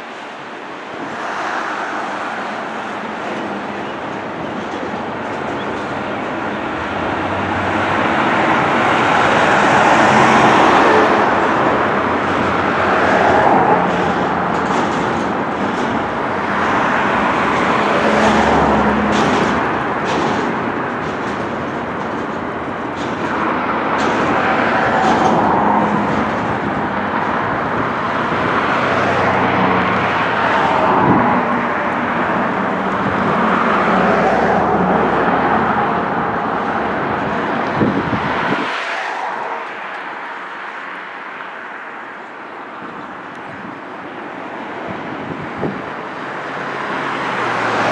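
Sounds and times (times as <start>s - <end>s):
freight train rolling on rails: 0.0s - 47.9s
road traffic passing: 0.0s - 47.9s.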